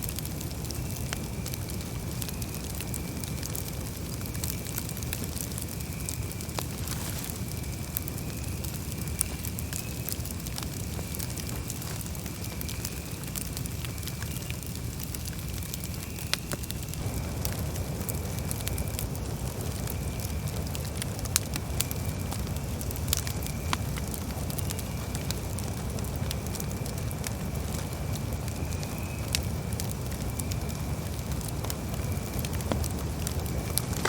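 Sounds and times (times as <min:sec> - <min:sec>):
burning wood crackling and popping: 0:00.0 - 0:34.0
campfire flames rumbling: 0:00.0 - 0:34.0.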